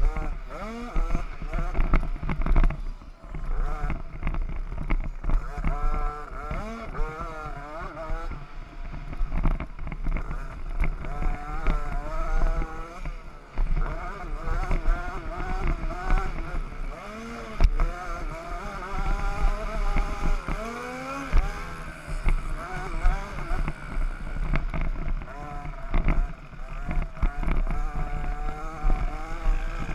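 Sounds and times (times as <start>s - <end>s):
motocross bikes racing: 0.0s - 29.9s.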